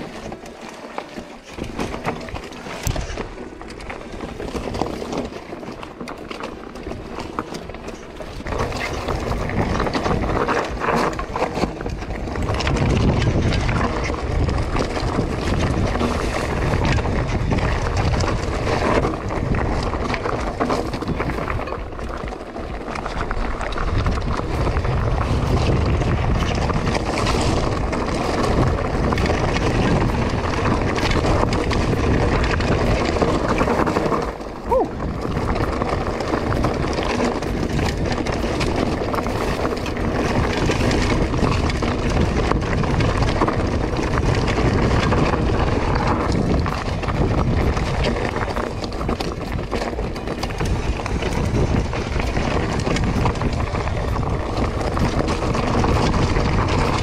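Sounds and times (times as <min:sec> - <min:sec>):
bike rattling: 0:00.0 - 0:57.0
tyres crunching over loose stones: 0:00.0 - 0:57.0
wind rumbling on microphone: 0:00.0 - 0:57.0.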